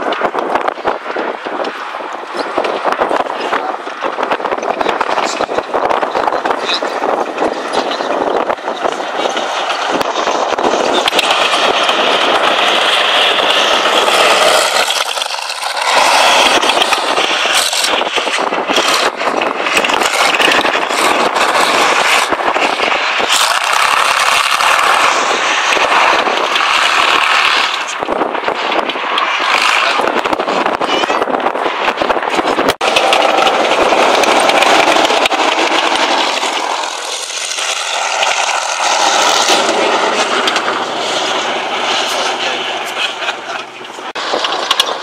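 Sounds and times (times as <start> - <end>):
tank diesel engine running: 0.0 - 45.0
steel tracks clattering: 4.2 - 30.7, 31.4 - 45.0.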